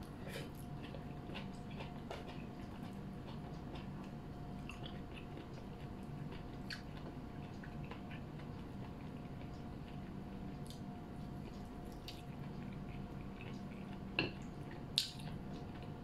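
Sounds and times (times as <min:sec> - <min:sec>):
faint steady hum: 0:00.0 - 0:16.0
person chewing with open mouth: 0:00.0 - 0:16.0.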